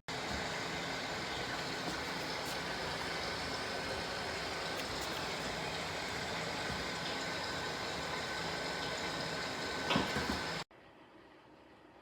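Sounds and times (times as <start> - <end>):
humidifier fan rushing: 0.1 - 12.0.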